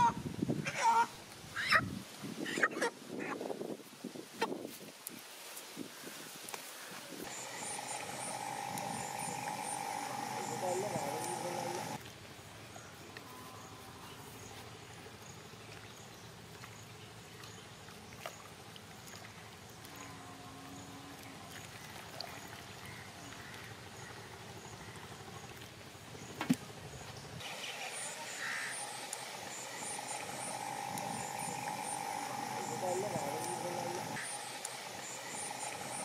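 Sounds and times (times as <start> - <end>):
faint outdoor ambience: 0.0 - 36.0.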